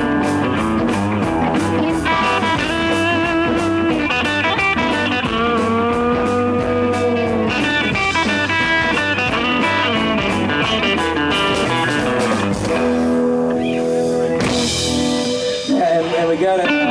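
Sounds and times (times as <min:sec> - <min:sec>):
blues-rock band jam: 0:00.0 - 0:16.9
electric guitar lead notes: 0:00.0 - 0:16.9.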